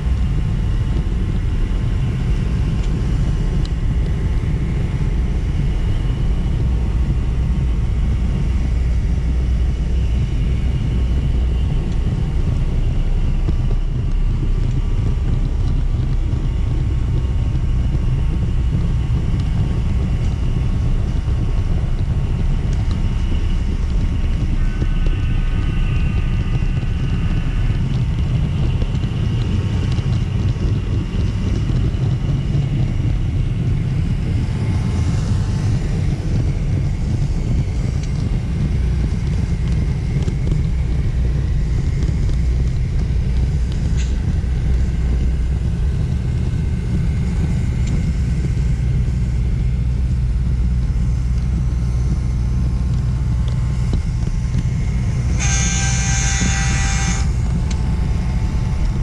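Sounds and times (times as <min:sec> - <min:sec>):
model train rumbling on track: 0:00.0 - 0:59.0.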